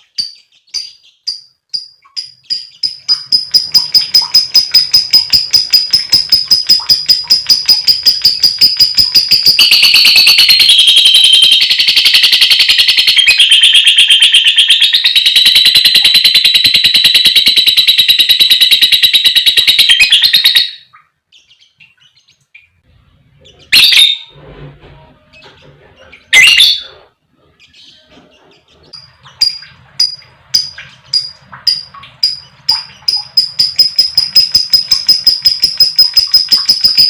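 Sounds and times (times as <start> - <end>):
lovebird chattering trill: 0.0 - 21.0, 27.7 - 37.0.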